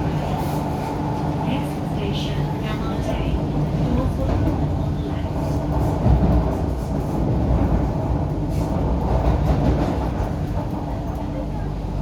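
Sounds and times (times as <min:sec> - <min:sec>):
low train hum: 0:00.0 - 0:12.0.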